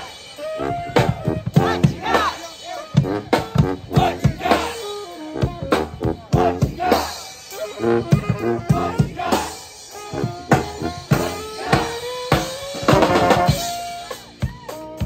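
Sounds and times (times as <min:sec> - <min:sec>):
saxophone: 0:00.0 - 0:15.0
snare and bass drum beat: 0:00.0 - 0:15.0
sousaphone bass: 0:00.0 - 0:15.0
trombone: 0:00.0 - 0:15.0.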